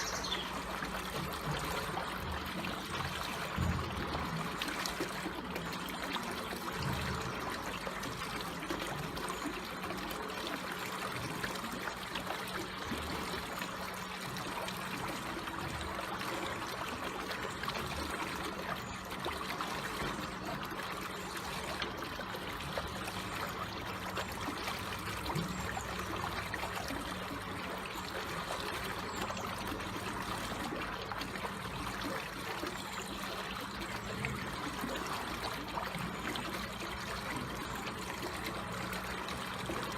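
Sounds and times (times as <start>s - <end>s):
water trickling with bubbling: 0.0s - 39.9s.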